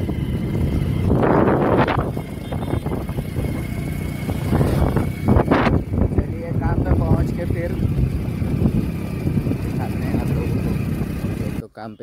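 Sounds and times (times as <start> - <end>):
wind on microphone: 0.0 - 11.6
motorcycle engine rumble: 0.0 - 11.9.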